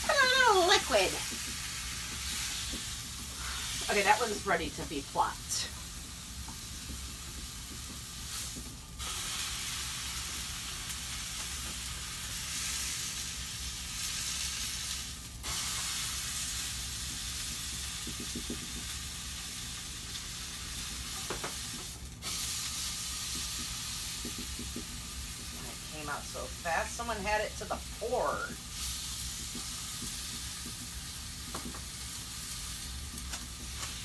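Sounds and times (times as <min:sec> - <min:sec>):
low steady hum: 0:00.0 - 0:34.0
meat sizzling in a frying pan: 0:00.0 - 0:34.0.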